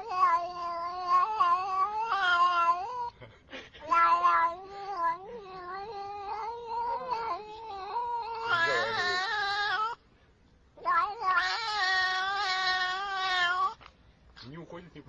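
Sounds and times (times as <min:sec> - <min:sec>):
cat yowling: 0:00.0 - 0:03.2, 0:03.8 - 0:10.0, 0:10.8 - 0:13.9.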